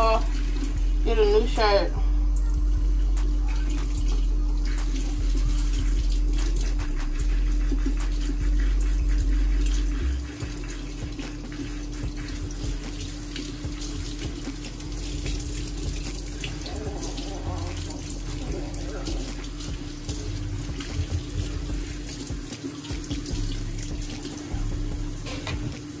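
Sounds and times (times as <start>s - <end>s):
faucet water splashing into sink: 0.0s - 1.7s, 3.2s - 26.0s
steady hum: 0.0s - 26.0s.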